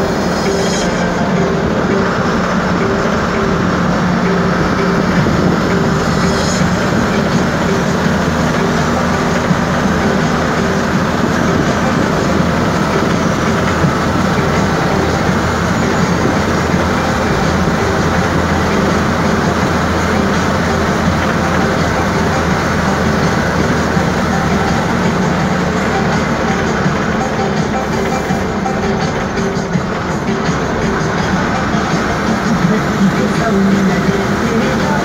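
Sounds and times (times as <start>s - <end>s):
engine drone: 0.0s - 35.0s
tyre and road noise: 0.0s - 35.0s.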